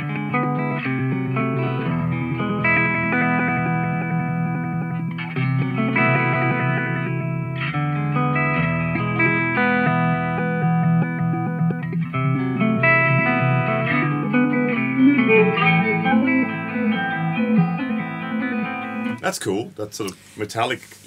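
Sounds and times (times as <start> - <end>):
electric guitar chords with delay: 0.0 - 19.2.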